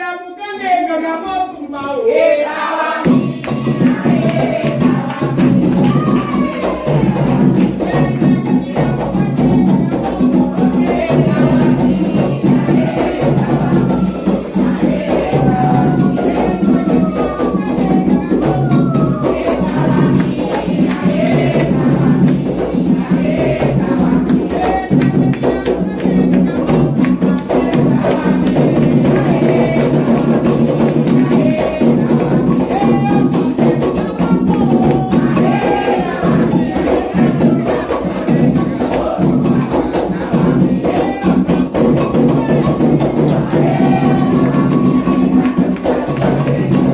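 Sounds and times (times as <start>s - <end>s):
group of voices chanting: 1.4s - 46.9s
hand drums playing rhythm: 3.0s - 46.9s.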